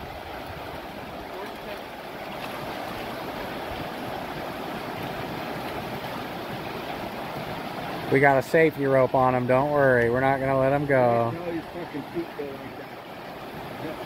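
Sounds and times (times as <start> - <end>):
river rapids rushing over rocks: 0.0 - 14.0.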